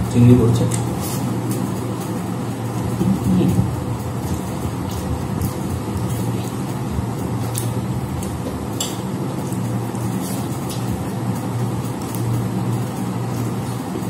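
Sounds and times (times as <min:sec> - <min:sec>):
low background hum: 0:00.0 - 0:14.0
people eating with hands: 0:00.6 - 0:14.0.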